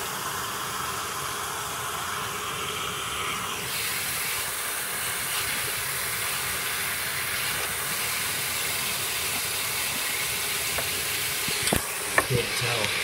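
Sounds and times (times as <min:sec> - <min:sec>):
water spraying hiss: 0:00.0 - 0:13.0.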